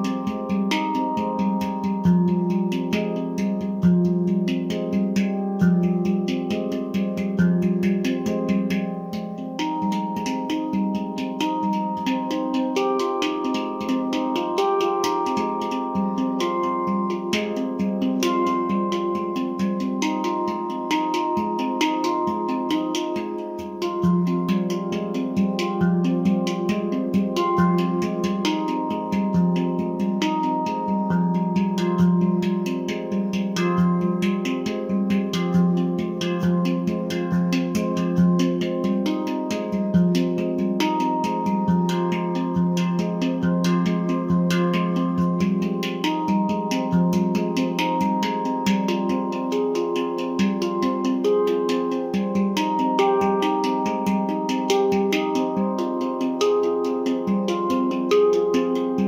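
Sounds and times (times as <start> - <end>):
handpan notes ringing: 0.0 - 59.0.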